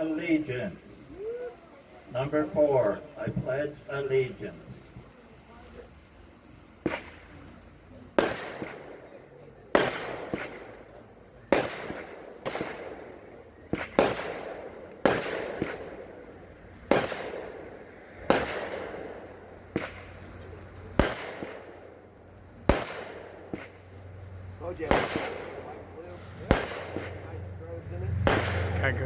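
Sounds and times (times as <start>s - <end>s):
fireworks bangs with rolling echo: 0.0s - 29.0s.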